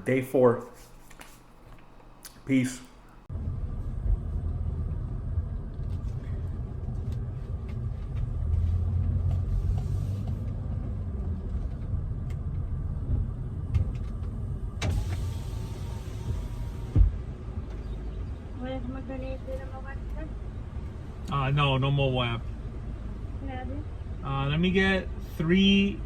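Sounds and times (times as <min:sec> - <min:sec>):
outside air noise: 0:00.0 - 0:26.0
car engine idling: 0:03.3 - 0:26.0.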